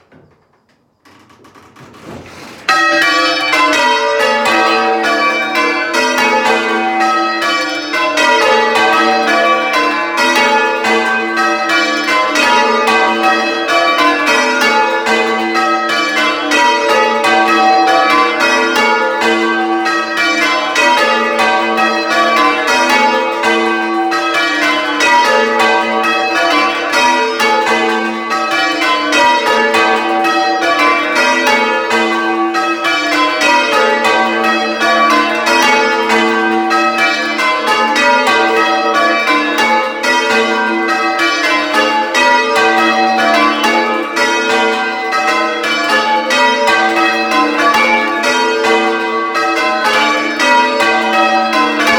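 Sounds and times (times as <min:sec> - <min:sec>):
church bells ringing: 0:02.7 - 0:51.9.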